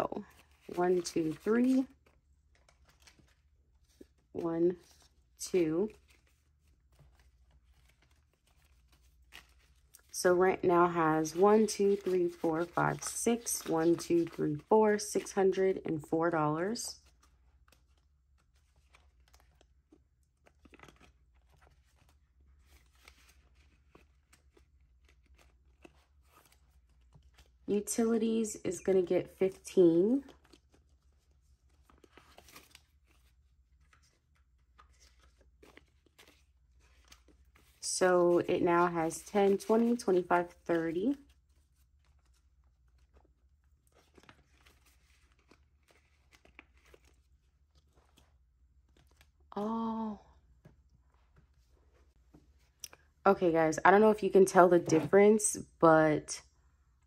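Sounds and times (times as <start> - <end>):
paper bills rustling: 0.1 - 49.5.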